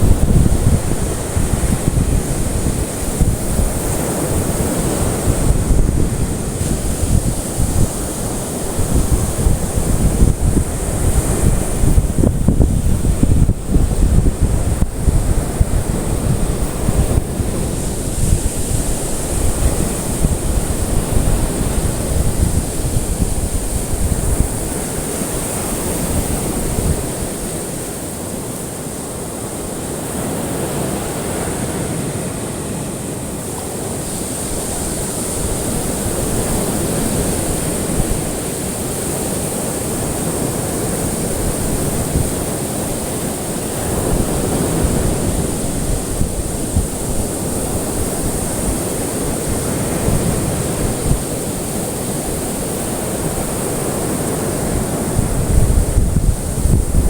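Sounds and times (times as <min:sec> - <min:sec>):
ocean waves washing: 0:00.0 - 0:57.0.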